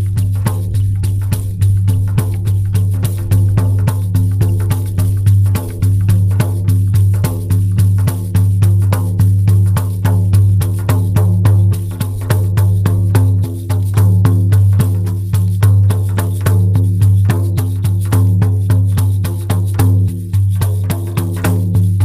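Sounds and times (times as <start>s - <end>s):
frame drum beating: 0.0s - 22.0s.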